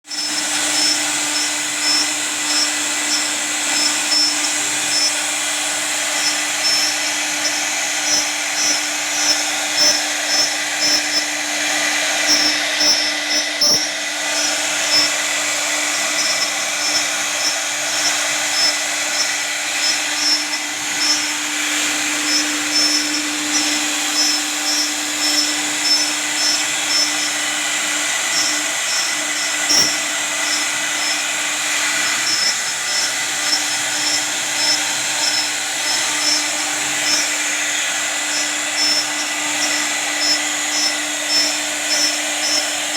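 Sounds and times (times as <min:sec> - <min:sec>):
router spindle cutting: 0:00.0 - 0:42.9.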